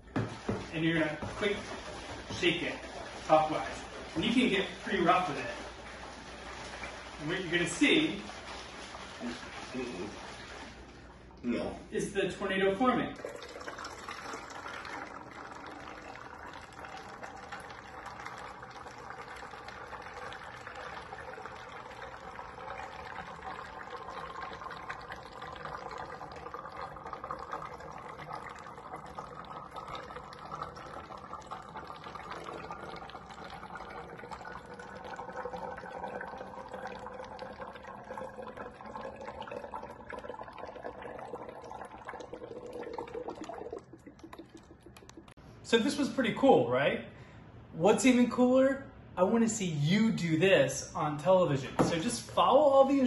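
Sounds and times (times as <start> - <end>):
water draining between bottles: 0.0 - 45.4.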